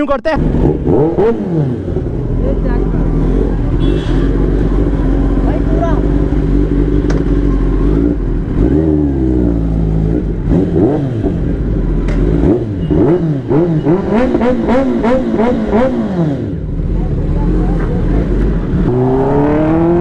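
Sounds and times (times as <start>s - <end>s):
motorcycle engine revving: 0.3s - 20.0s.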